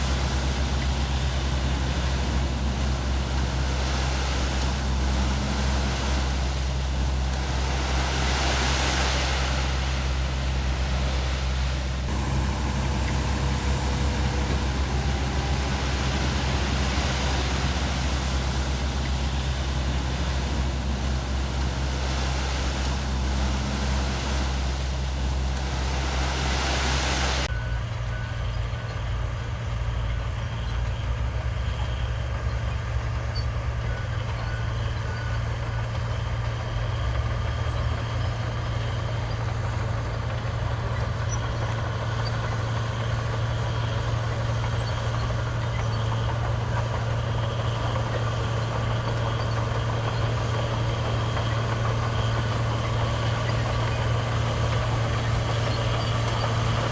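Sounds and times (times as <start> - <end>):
heavy machinery diesel engine: 0.0 - 56.9.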